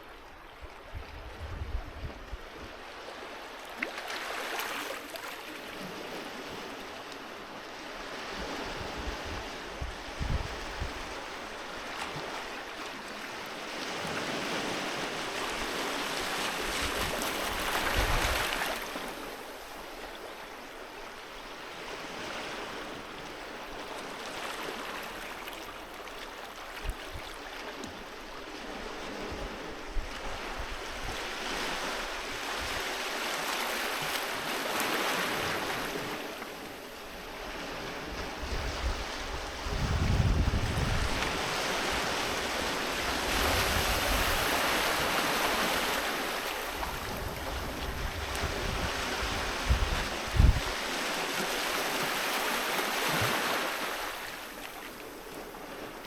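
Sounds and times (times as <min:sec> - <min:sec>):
sea waves breaking on a beach: 0:00.0 - 0:56.0.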